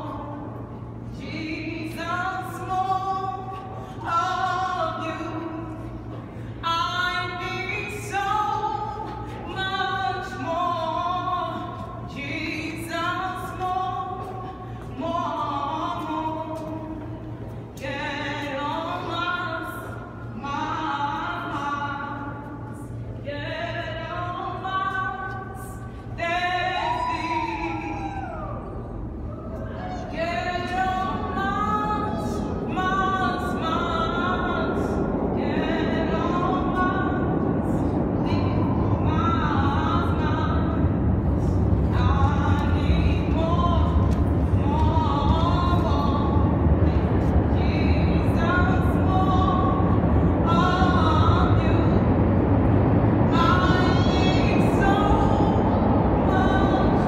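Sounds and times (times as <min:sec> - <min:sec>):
low rumble: 0:00.0 - 0:57.0
steady low hum: 0:00.0 - 0:57.0.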